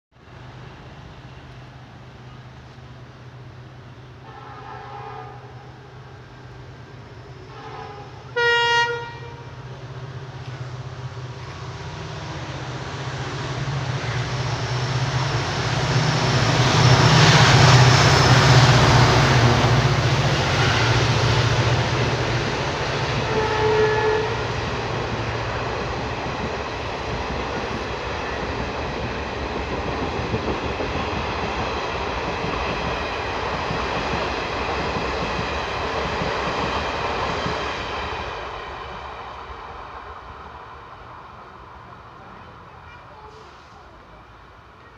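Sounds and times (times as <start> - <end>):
diesel locomotive engine drone: 0.1 - 44.9
train coaches rumbling past: 0.2 - 44.9.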